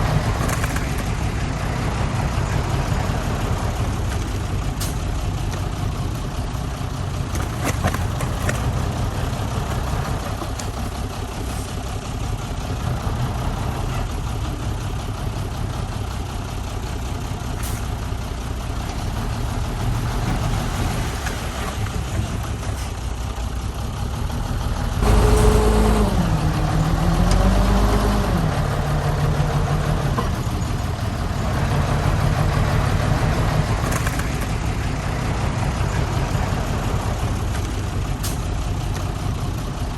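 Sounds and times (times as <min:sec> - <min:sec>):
heavy machinery diesel engines running: 0:00.0 - 0:39.9.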